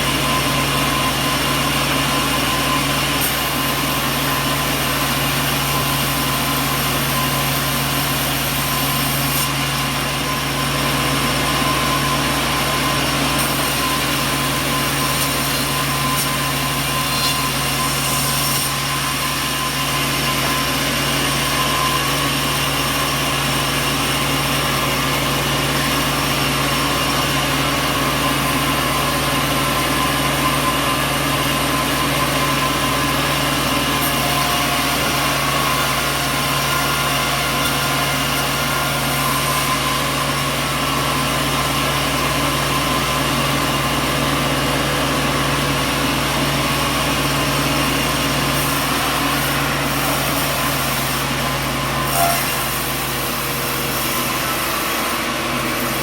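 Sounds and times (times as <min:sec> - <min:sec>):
sawmill machinery hum: 0:00.0 - 0:56.0.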